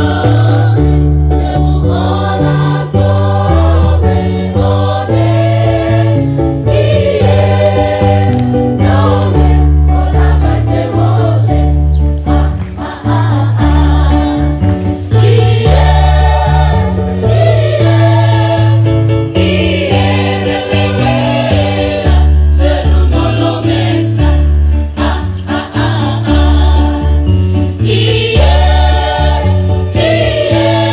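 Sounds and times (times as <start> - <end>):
choir singing in harmony: 0.0 - 30.9.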